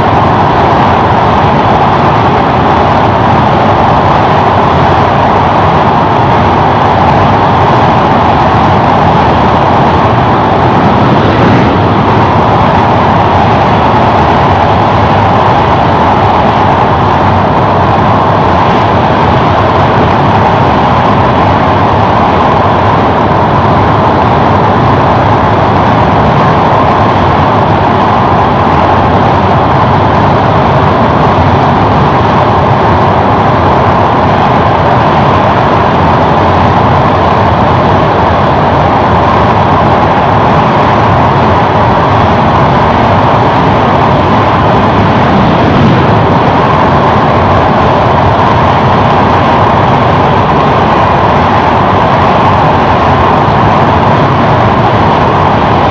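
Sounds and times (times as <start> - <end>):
rushing air: 0.0 - 55.9
train wheels rushing on rails: 0.0 - 55.9.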